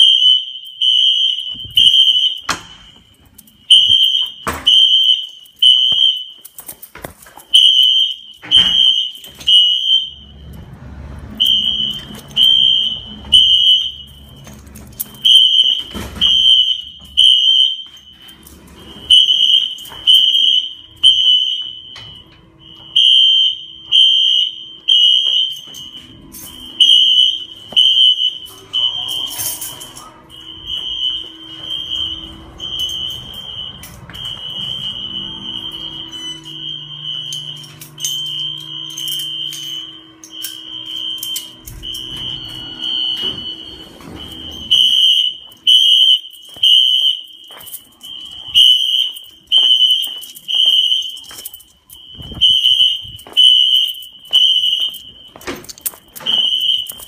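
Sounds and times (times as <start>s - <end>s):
fire alarm horn beeps: 0.0s - 57.0s.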